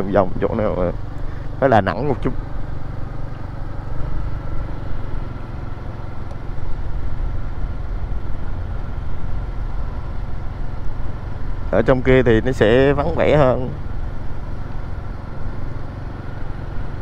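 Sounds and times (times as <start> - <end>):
road and wind noise: 0.0 - 17.0
scooter engine drone: 0.0 - 17.0.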